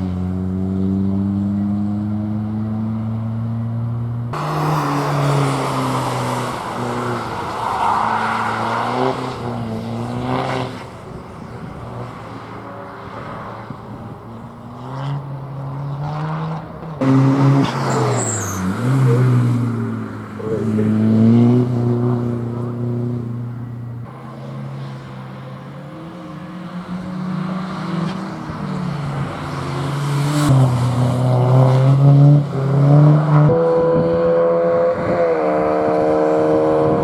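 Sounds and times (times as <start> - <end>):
race car engine accelerating: 0.0 - 37.0.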